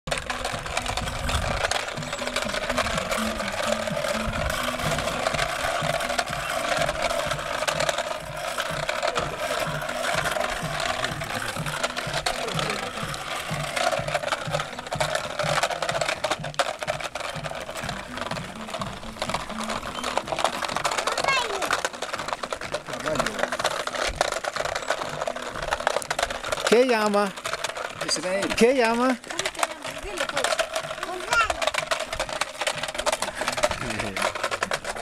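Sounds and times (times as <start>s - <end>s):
toy car wheels rattling on stone: 0.0s - 35.0s.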